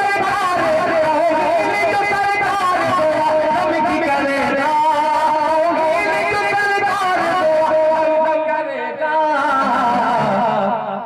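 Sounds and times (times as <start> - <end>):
man singing long held notes: 0.0 - 11.0.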